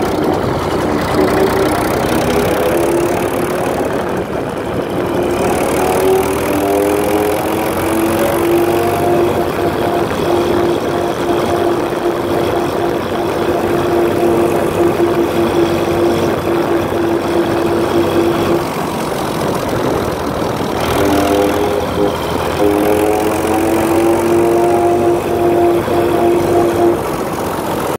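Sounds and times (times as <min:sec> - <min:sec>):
steady whine: 0:00.0 - 0:27.9
tractor diesel engine running: 0:00.0 - 0:27.9.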